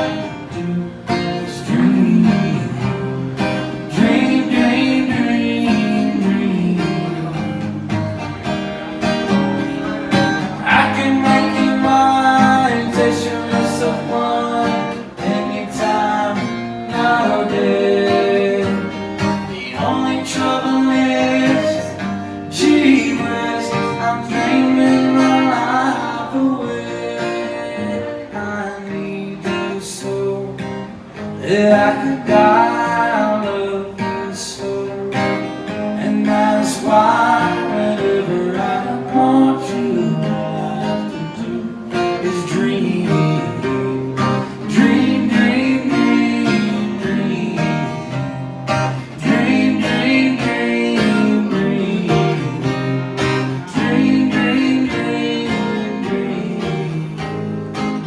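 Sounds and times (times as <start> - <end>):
acoustic guitar music: 0.0 - 58.0.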